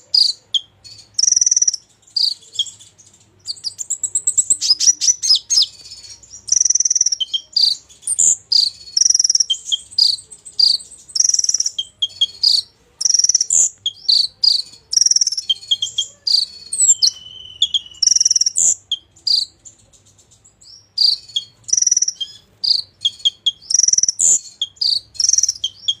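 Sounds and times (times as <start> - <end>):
bird singing buzzy trills: 0.0 - 26.0.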